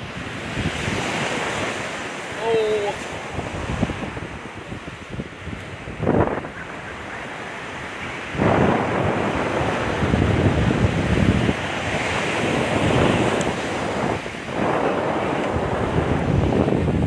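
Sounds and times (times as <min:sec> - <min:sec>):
surf rushing onto beach: 0:00.0 - 0:17.0
wind buffeting microphone: 0:00.0 - 0:17.0.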